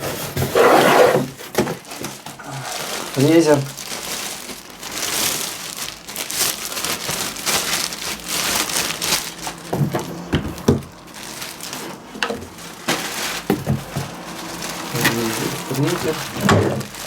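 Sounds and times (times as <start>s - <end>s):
plastic packaging crinkling: 1.2s - 17.0s.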